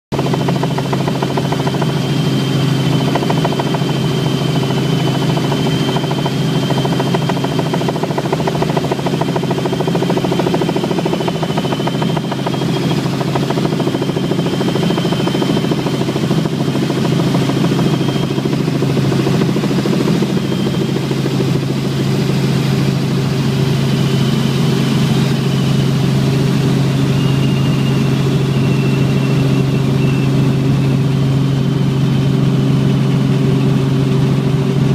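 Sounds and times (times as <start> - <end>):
helicopter cabin drone: 0.1 - 34.9
high wavering whine: 0.2 - 34.9.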